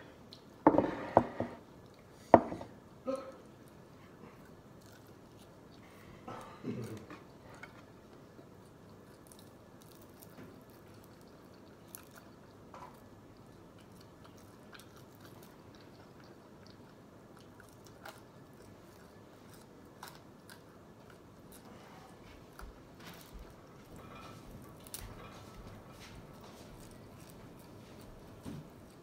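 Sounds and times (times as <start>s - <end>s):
chewing and mouth sounds: 3.3s - 29.0s.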